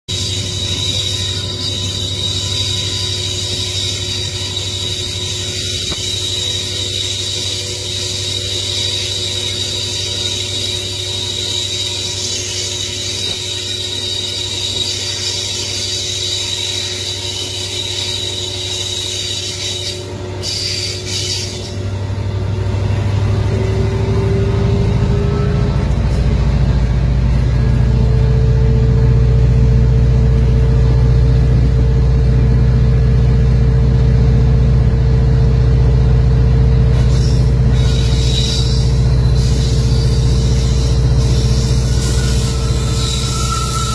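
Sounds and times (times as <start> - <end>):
diesel locomotive engine running: 0.0 - 43.9.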